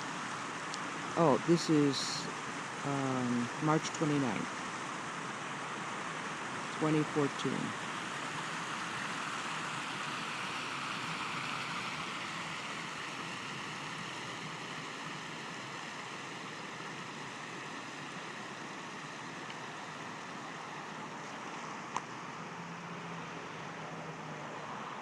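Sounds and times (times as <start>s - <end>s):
creek water rushing over cascade: 0.0s - 25.0s.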